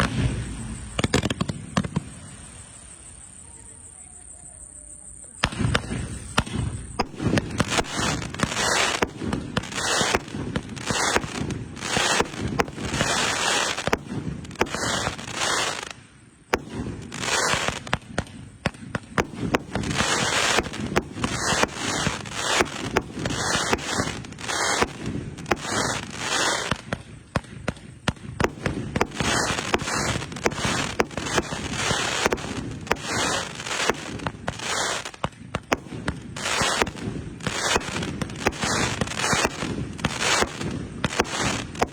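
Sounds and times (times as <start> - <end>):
fireworks launch thumps and bursts: 0.0 - 2.4, 5.4 - 41.9
fireworks crackle: 0.0 - 3.8, 5.3 - 41.9.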